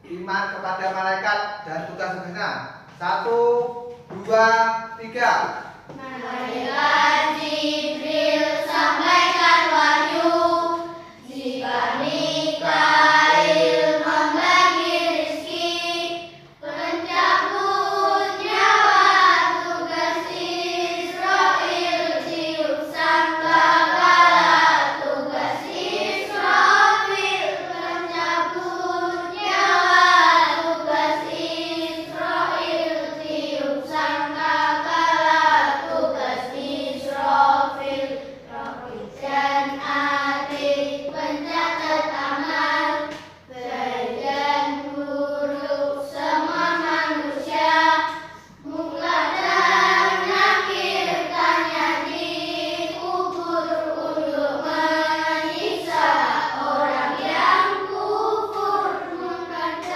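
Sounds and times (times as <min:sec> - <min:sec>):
children singing in unison: 0:05.8 - 0:59.9.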